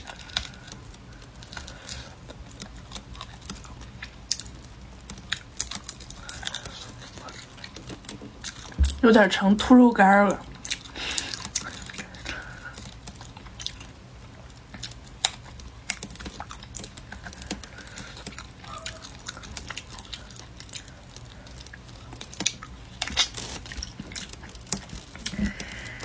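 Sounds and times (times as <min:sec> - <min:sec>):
sharp clicks and crunches: 0:00.0 - 0:09.1, 0:10.4 - 0:26.0
chewing and gnawing on meat: 0:00.0 - 0:26.0.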